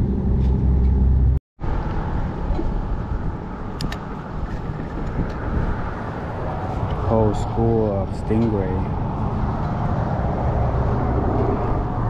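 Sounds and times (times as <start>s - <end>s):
heavy low rumble: 0.0s - 12.0s.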